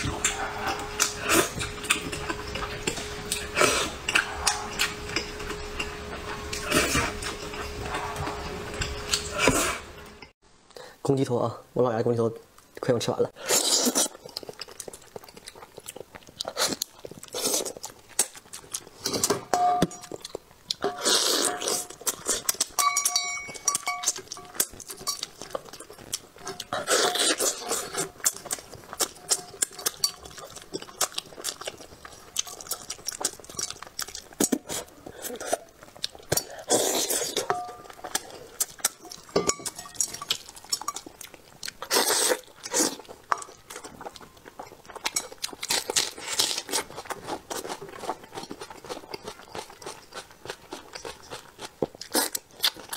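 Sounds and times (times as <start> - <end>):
chewing and sucking: 0.0 - 9.9, 13.4 - 19.4, 20.0 - 52.9.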